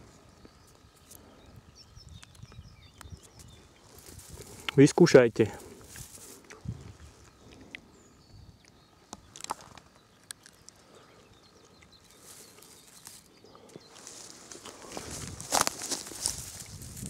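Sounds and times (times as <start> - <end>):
dry grass rustling: 0.0 - 7.6, 9.0 - 17.0.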